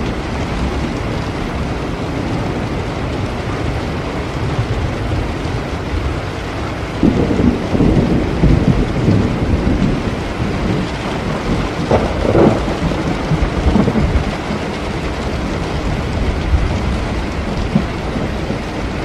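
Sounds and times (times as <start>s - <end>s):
rolling thunder: 0.0s - 19.0s
steady rain: 0.0s - 19.0s.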